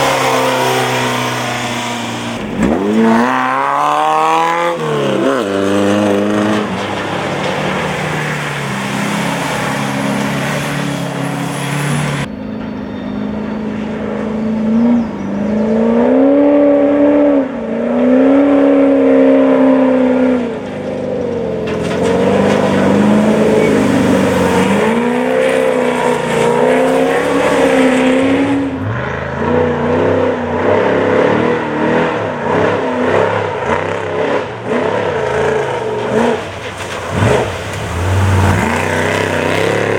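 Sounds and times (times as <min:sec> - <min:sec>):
race vehicle engines revving: 0:00.0 - 0:39.9.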